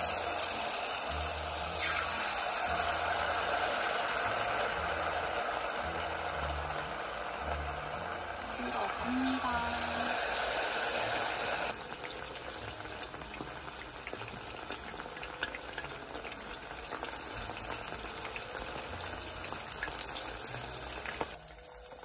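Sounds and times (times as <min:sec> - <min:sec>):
meat deep-frying in oil: 0:00.0 - 0:22.0.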